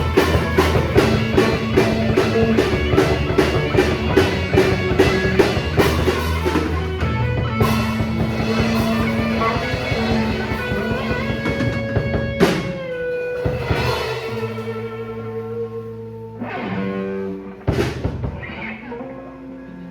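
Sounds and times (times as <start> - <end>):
electric guitar notes: 0.0 - 19.9.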